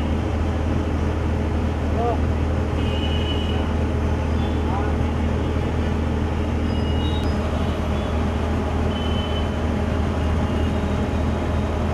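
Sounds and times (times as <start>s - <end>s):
low rumble of traffic engines: 0.0s - 11.9s.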